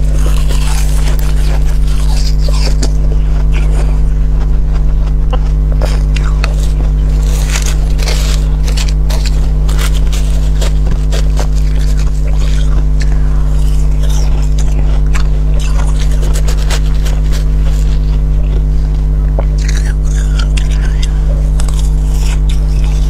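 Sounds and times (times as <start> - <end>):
frost crunching as chewed: 0.0 - 23.0
loud low hum: 0.0 - 23.0
spoon scraping frost: 0.0 - 23.0.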